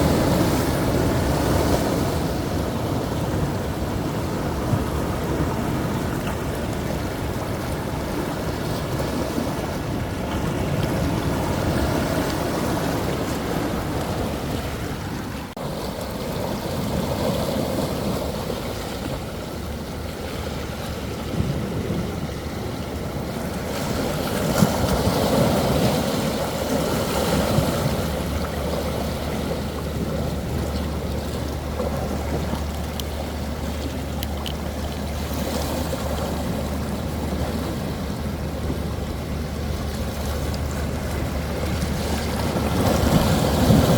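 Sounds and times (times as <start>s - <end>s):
sea surf breaking: 0.0s - 43.9s.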